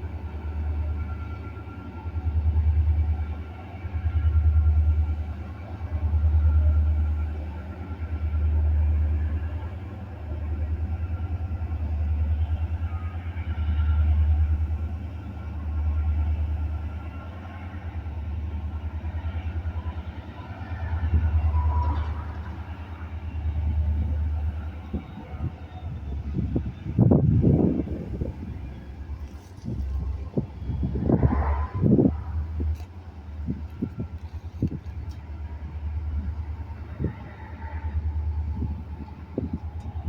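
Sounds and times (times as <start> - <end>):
diesel locomotive engine rumble: 0.0 - 40.0.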